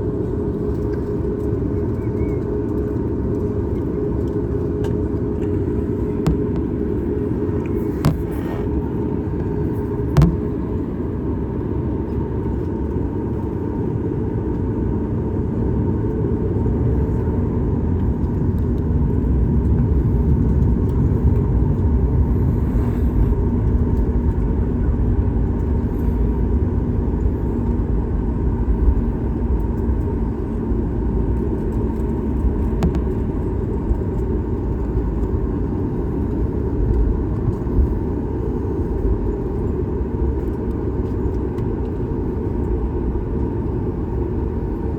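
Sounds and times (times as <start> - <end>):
airplane cabin engine rumble: 0.0 - 44.9
faint steady hum: 0.0 - 44.9.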